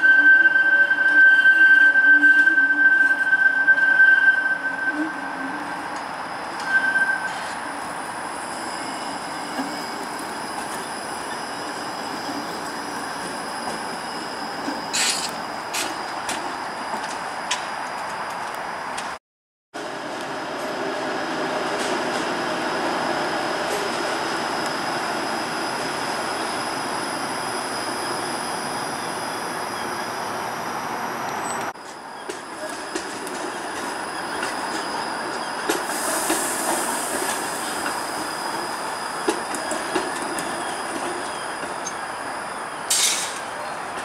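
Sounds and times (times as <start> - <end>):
streetcar wheels rumbling on track: 4.6 - 19.2, 19.8 - 44.0.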